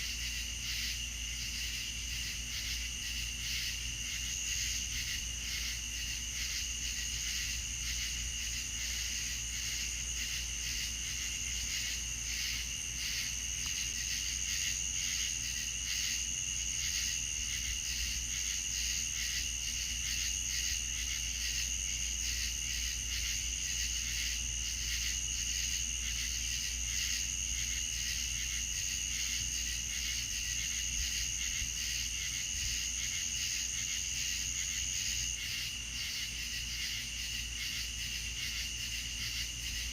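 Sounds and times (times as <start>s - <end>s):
high cricket trill: 0.0s - 39.9s.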